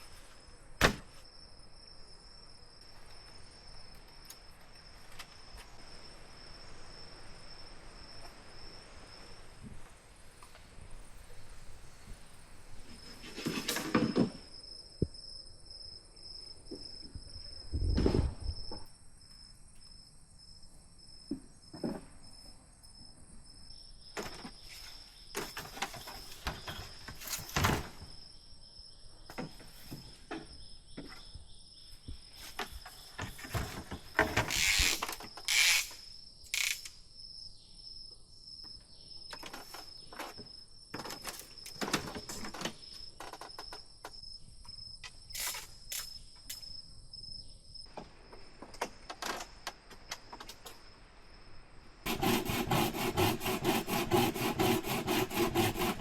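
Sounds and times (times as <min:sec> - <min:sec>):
insects trilling: 0:01.2 - 0:56.0.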